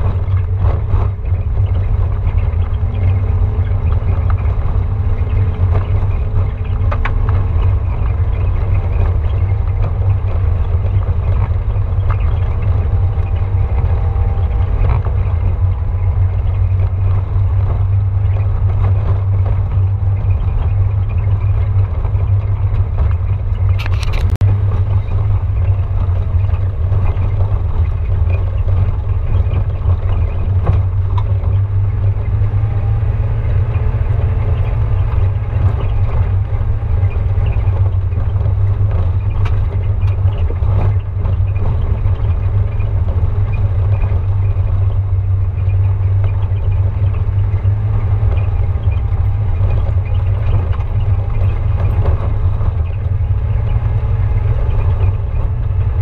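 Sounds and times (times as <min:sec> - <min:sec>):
engine and tyres rumbling: 0:00.0 - 0:56.0.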